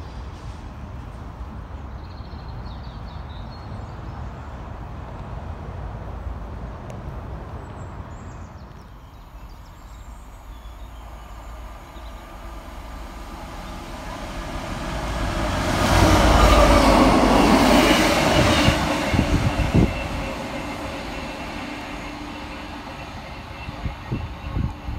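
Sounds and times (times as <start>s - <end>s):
diesel locomotives passing: 0.0s - 24.9s.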